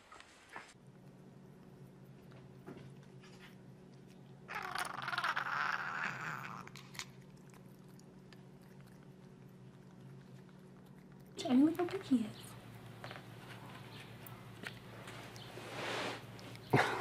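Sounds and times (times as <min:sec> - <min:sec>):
faint steady hum: 0:00.0 - 0:17.0
cat licking and smacking: 0:00.9 - 0:05.5, 0:06.1 - 0:15.6.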